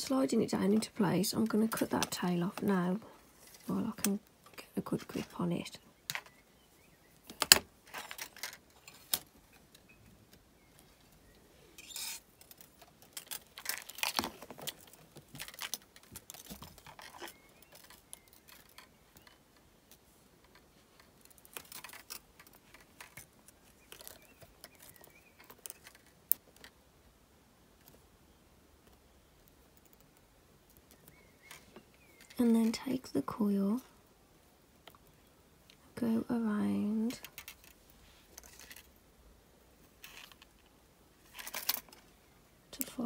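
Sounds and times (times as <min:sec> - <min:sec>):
wire being handled and bent: 0:00.0 - 0:06.5, 0:07.1 - 0:26.9, 0:28.8 - 0:35.8, 0:36.9 - 0:39.1, 0:39.8 - 0:43.0.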